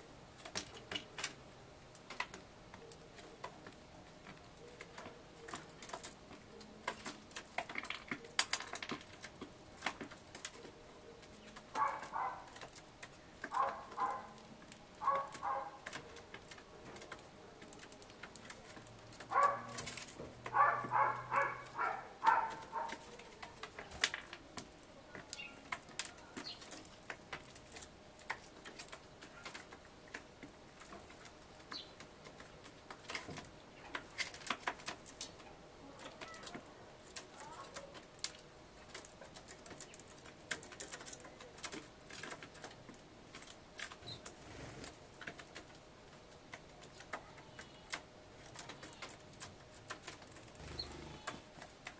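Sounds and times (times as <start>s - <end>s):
bird pecking on wood: 0.4s - 51.9s.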